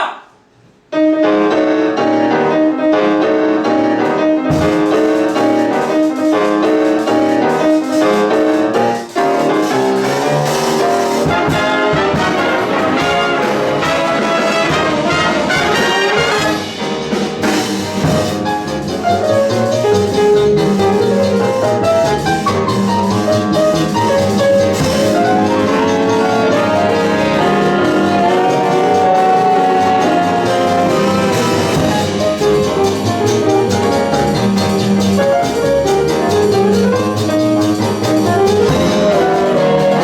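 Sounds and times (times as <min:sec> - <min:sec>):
jazz big band playing: 0:01.2 - 0:40.0.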